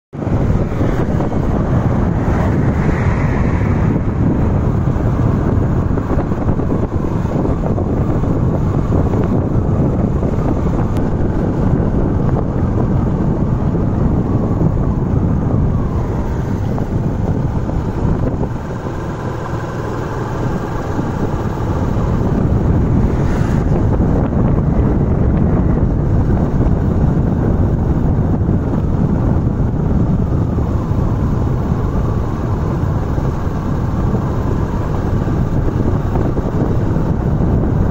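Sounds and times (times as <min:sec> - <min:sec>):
vehicle running and tyre noise: 0:00.1 - 0:37.9
wind rushing over microphone: 0:00.1 - 0:37.9.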